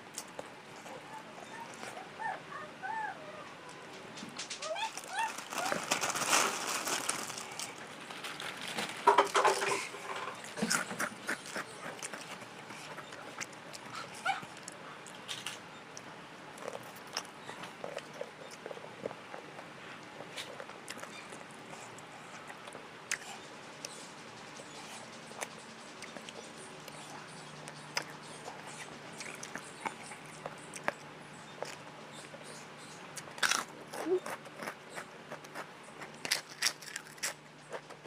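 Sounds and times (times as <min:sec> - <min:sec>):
chewing and crunching food: 0:00.1 - 0:03.0, 0:03.7 - 0:38.0.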